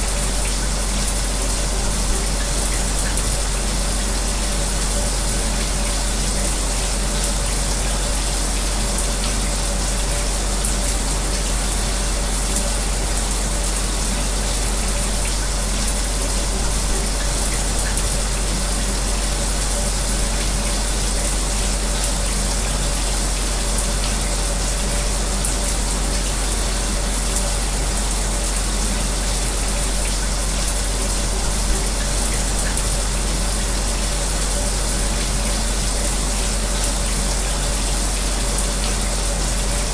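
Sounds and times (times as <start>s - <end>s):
electric fan humming: 0.0s - 39.9s
shower spray running: 0.0s - 39.9s.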